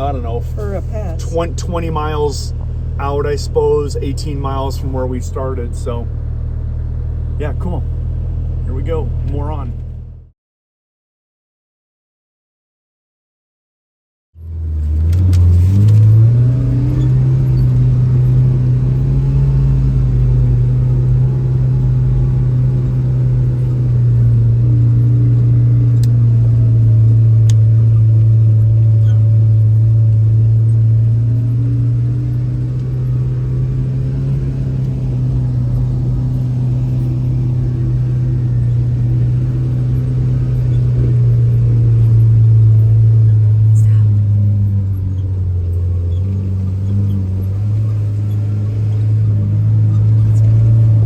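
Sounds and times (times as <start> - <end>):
vehicle engine humming: 0.0 - 10.3, 14.4 - 51.0.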